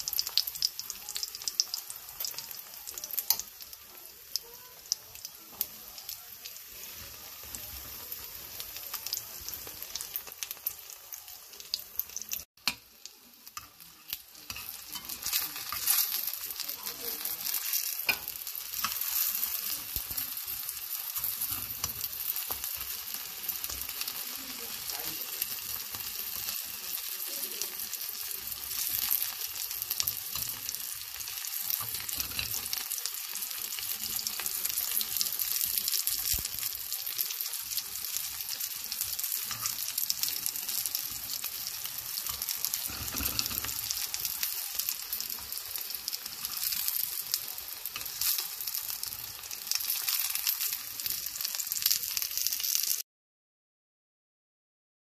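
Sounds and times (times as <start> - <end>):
food frying in oil: 0.0 - 53.0.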